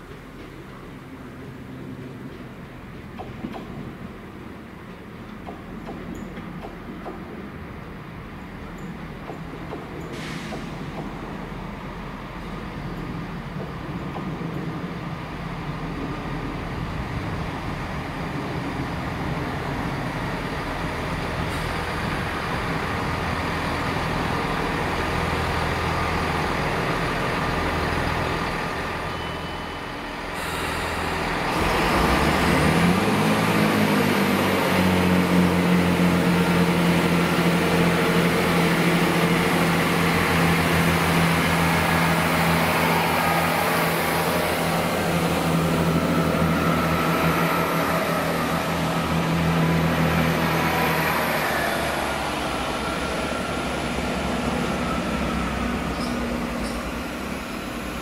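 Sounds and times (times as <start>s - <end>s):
diesel train passing: 0.0s - 58.0s.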